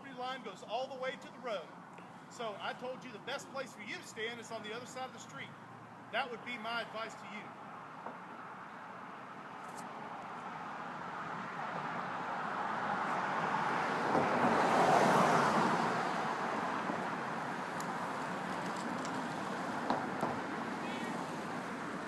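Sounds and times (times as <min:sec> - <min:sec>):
car passing: 0:01.5 - 0:22.0.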